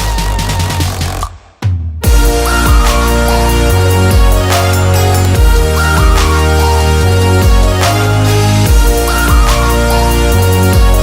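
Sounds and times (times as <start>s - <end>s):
electronic dance music: 2.0s - 11.0s.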